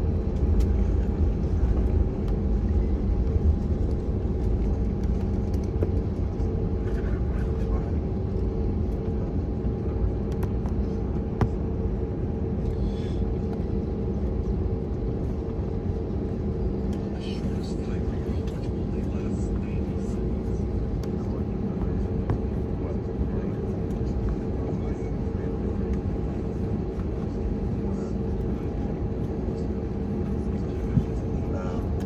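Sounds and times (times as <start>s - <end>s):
aircraft cabin rumble: 0.0s - 32.0s.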